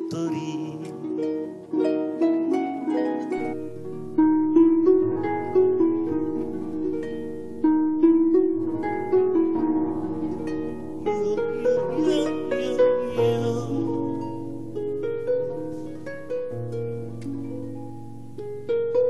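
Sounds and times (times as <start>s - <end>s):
harp music: 0.0s - 19.0s.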